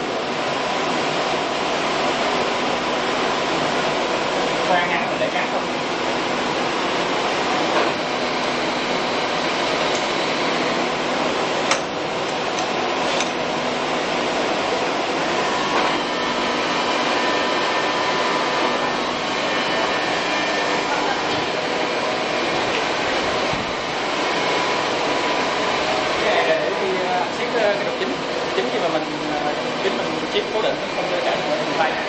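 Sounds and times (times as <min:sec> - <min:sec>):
drill milling machine cutting steel: 0:05.9 - 0:32.0.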